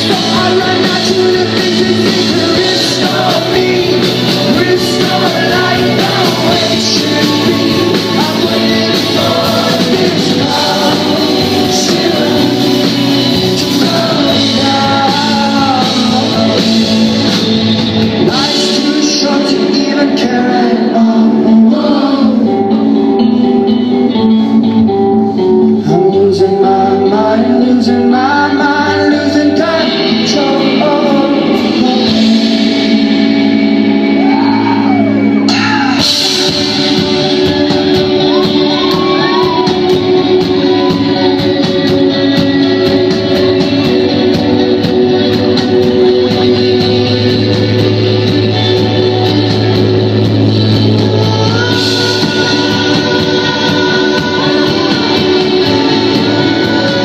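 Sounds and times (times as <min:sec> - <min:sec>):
lead vocal singing: 0:00.0 - 0:57.0
live rock band playing: 0:00.0 - 0:57.0.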